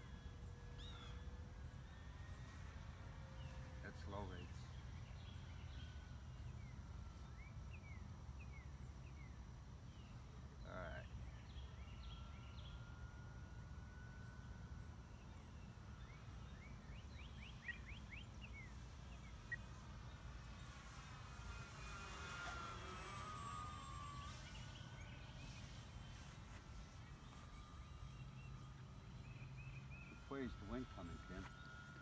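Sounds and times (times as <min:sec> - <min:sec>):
model plane motor whine: 0:00.0 - 0:32.0
small birds chirping: 0:03.3 - 0:12.8, 0:15.0 - 0:32.0.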